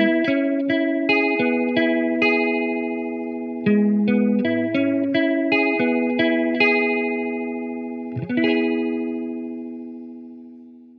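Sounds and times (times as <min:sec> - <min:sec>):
electric guitar with phaser: 0:00.0 - 0:10.9.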